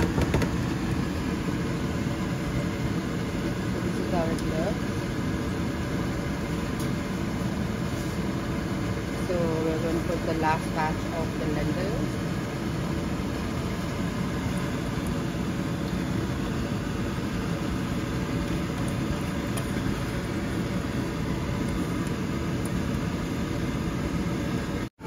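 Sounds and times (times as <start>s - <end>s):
exhaust fan humming: 0.0s - 25.0s.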